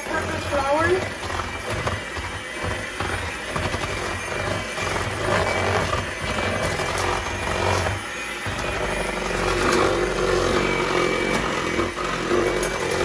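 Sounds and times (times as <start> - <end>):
electric hand mixer running: 0.0 - 13.0.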